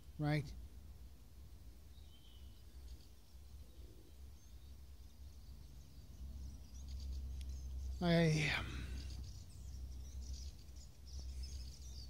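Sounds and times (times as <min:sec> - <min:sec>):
faint high bird chirps: 0:01.9 - 0:12.0.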